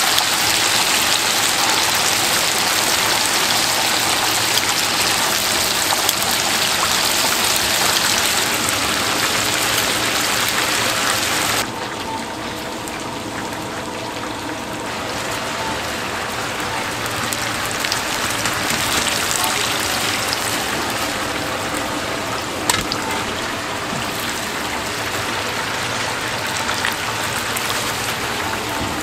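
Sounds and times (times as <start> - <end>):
chicken deep-frying in oil: 0.0 - 29.0.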